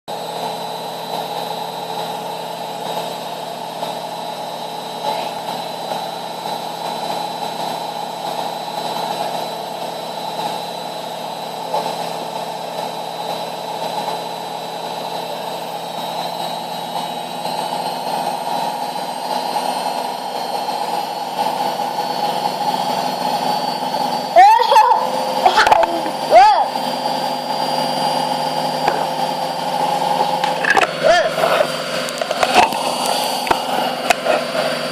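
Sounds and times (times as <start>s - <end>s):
washing machine spinning: 0.1s - 34.9s.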